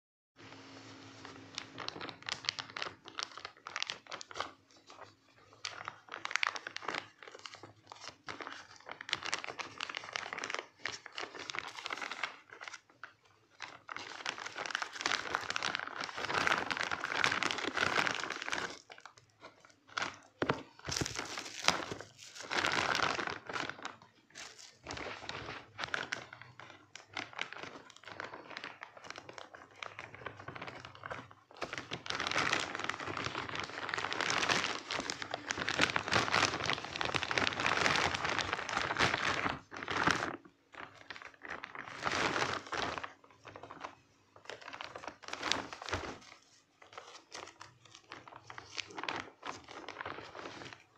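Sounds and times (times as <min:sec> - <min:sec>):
plastic bag crinkling: 0:00.8 - 0:50.9
plastic tearing: 0:01.2 - 0:50.9.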